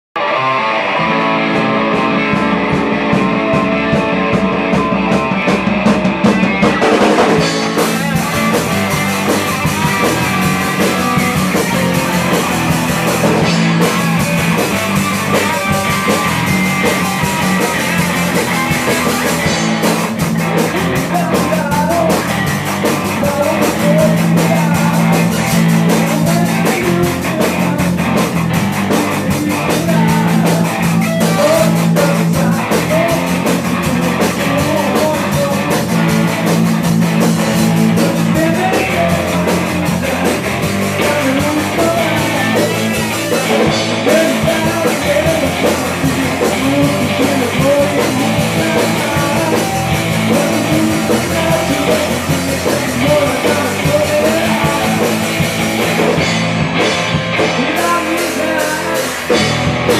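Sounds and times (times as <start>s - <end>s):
live rock band playing: 0.2s - 59.9s.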